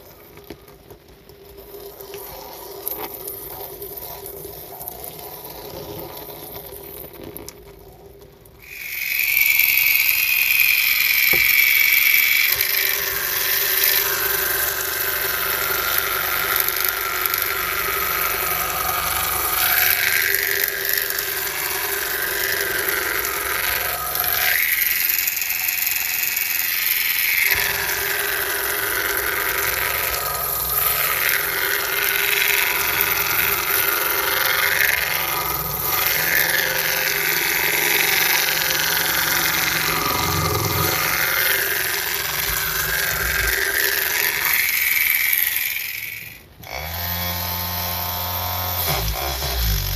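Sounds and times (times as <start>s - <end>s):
small motor whine: 0.0s - 49.9s.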